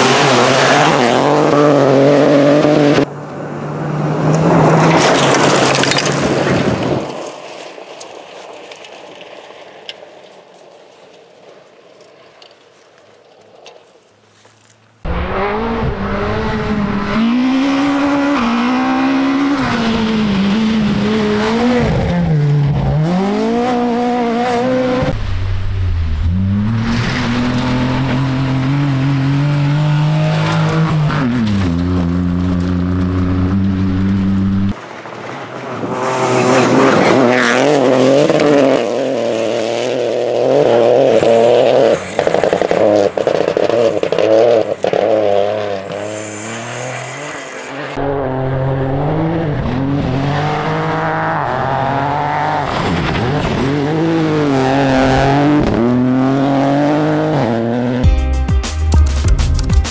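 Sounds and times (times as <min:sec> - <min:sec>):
rally car engines revving hard: 0:00.0 - 0:07.1, 0:15.1 - 0:34.8, 0:35.6 - 0:58.0.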